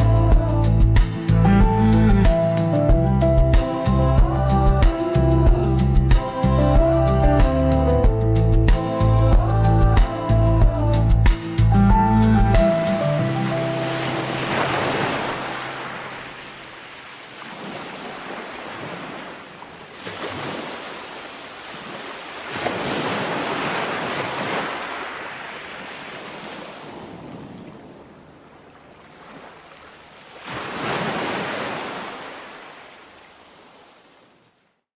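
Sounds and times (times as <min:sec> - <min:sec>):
ocean waves breaking: 0:00.0 - 0:34.6.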